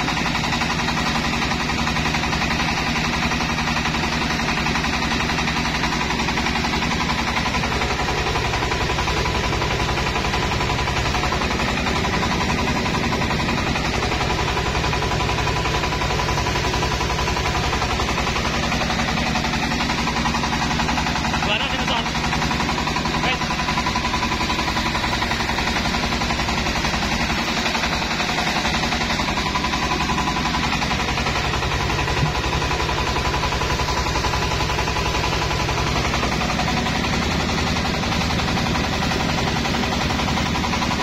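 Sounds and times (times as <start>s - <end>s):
rice mill engine running: 0.0s - 41.0s
rice polisher whine: 0.0s - 41.0s.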